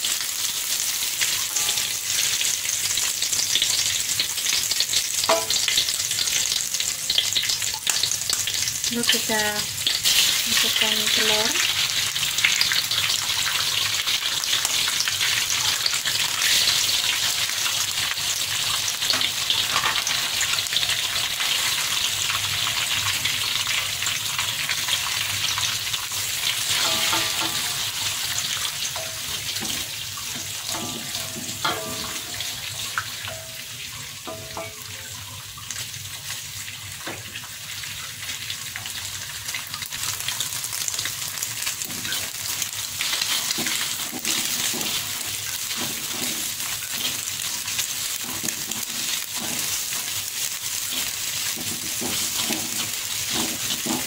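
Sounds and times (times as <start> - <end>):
eggs sizzling in oil: 0.0 - 54.0.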